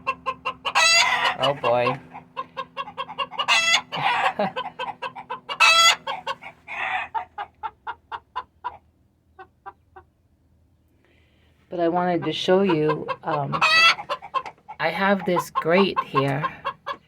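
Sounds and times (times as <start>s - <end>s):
loud high chicken calls: 0.0s - 9.8s, 13.1s - 17.0s
chickens clucking: 0.0s - 11.0s, 11.8s - 17.0s.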